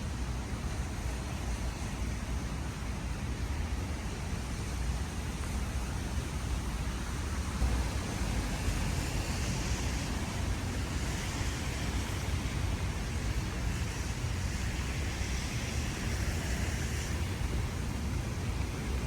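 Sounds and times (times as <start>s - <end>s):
low city rumble: 0.0s - 19.0s
soft hissing swells: 0.0s - 19.0s.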